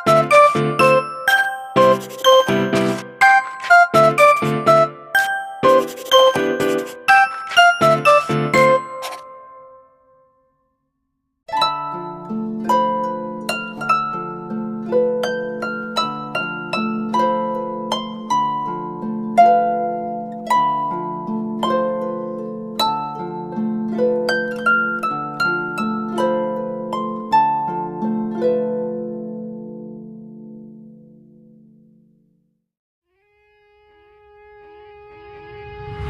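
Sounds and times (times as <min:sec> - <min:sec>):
harp-like plucked ringtone melody: 0:00.0 - 0:10.2, 0:11.5 - 0:31.9.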